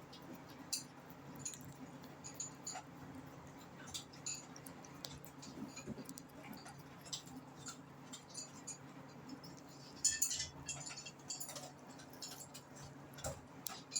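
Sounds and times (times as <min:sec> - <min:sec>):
cat chewing and licking: 0:00.0 - 0:13.9.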